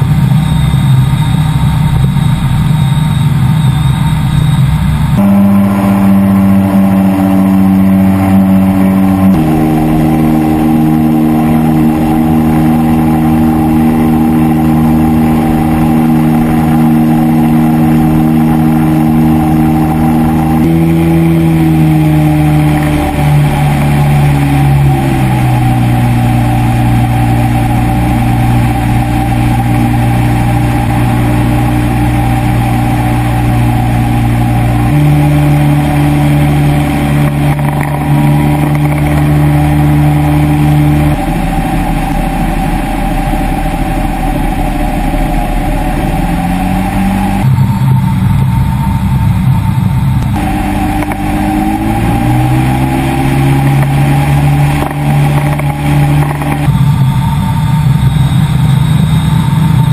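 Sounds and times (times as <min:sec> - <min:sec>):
propeller engine droning: 0:00.0 - 0:59.9.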